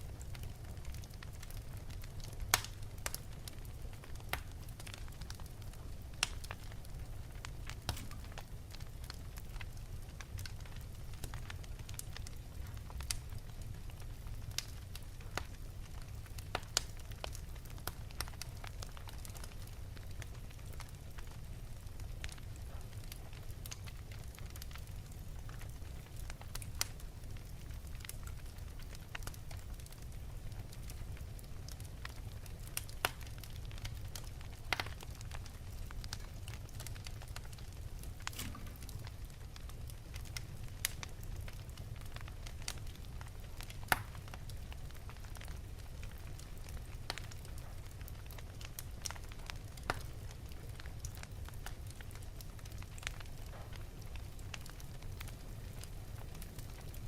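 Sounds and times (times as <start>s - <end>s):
fire crackles and pops: 0.0s - 57.0s
low rumble of flames: 0.0s - 57.0s.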